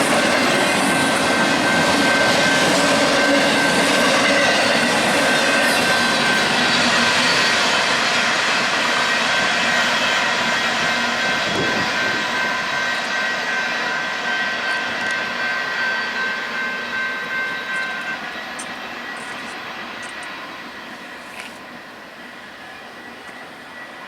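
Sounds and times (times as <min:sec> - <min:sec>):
freight train rolling past: 0:00.0 - 0:24.0
high squeal: 0:00.0 - 0:24.0.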